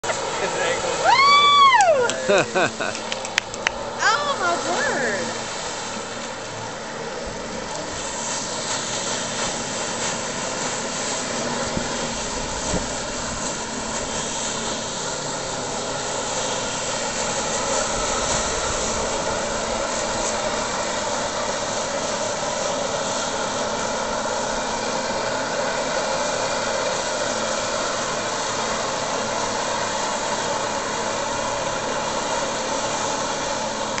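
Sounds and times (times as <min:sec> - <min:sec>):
jet ski engine at high revs: 0:00.0 - 0:34.0
water jets rushing: 0:00.0 - 0:34.0.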